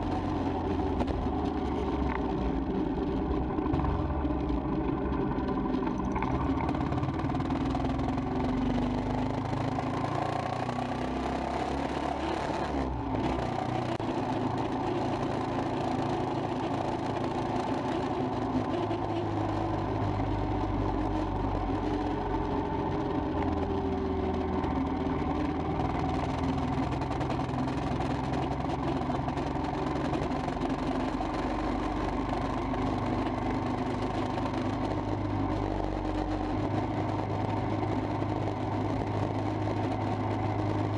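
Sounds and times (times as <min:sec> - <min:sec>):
motorcycle engine running: 0:00.0 - 0:40.9
road noise rush: 0:00.0 - 0:40.9.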